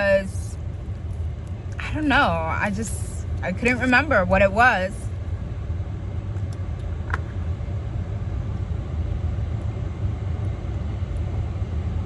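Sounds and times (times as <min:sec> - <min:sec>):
air conditioning running: 0:00.0 - 0:12.0
car engine hum: 0:00.0 - 0:12.0.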